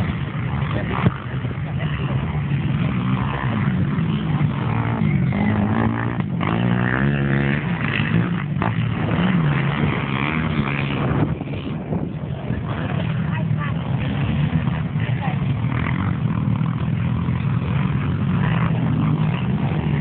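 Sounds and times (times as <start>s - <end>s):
quad engines revving: 0.0s - 20.0s.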